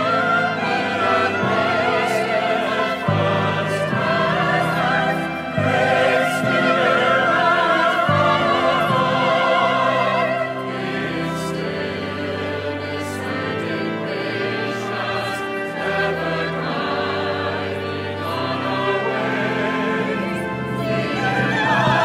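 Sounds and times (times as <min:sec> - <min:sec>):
instrumental accompaniment: 0:00.0 - 0:22.0
voices singing a hymn: 0:00.0 - 0:22.0.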